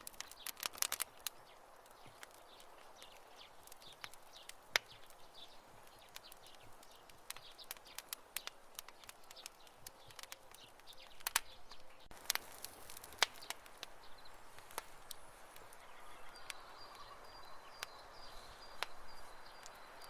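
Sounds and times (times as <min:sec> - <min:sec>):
campfire crackling and popping: 0:00.0 - 0:20.0
soft hiss of fire: 0:00.0 - 0:20.0.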